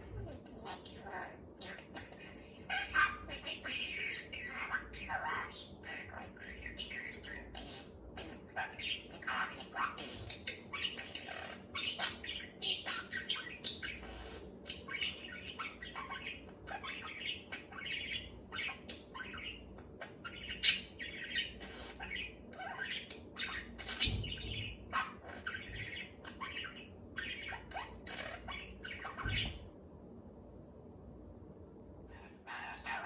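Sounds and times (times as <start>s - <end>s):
budgerigar chattering: 2.7s - 29.6s.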